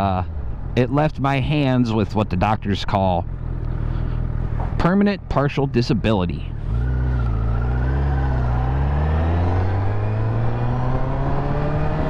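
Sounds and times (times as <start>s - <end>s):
motorcycle engine accelerating: 2.0s - 12.0s.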